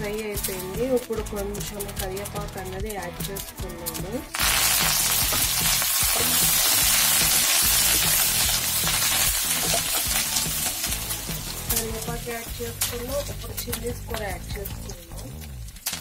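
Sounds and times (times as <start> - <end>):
leaves sizzling in hot oil: 0.0 - 16.0.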